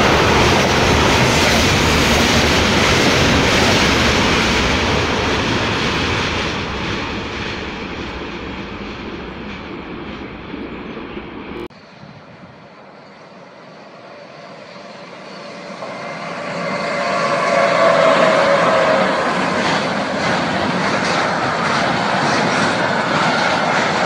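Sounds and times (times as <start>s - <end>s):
electric locomotive passing: 0.0s - 24.0s.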